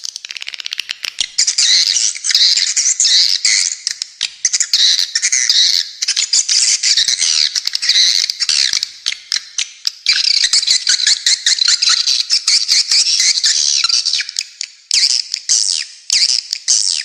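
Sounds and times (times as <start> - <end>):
birds chattering: 0.0 - 17.0.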